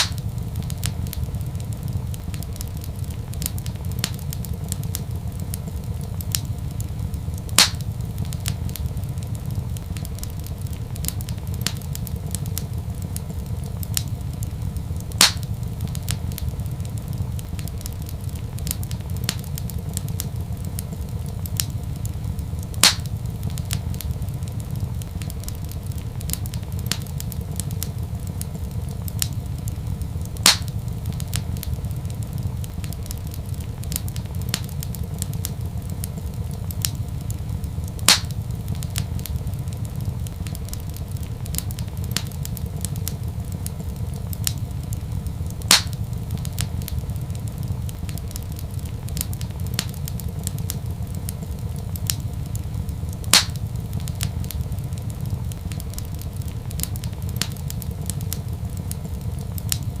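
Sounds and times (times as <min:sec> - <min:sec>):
sharp loud pops of fire: 0:00.0 - 0:59.9
wood fire crackling: 0:00.0 - 1:00.0.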